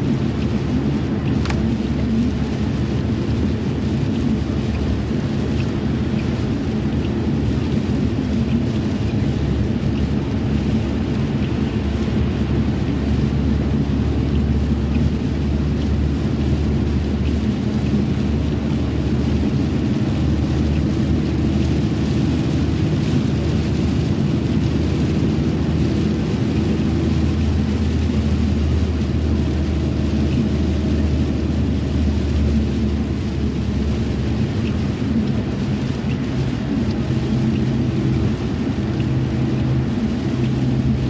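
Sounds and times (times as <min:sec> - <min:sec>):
road or wind hiss: 0:00.0 - 0:41.0
vehicle engine rumble: 0:00.0 - 0:41.0.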